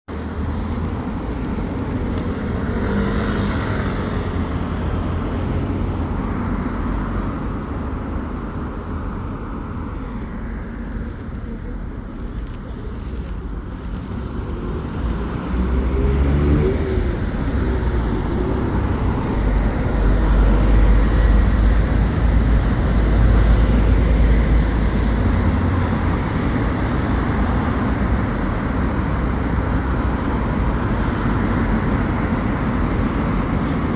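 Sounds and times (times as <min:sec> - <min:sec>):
road traffic rumble: 0:00.1 - 0:33.9.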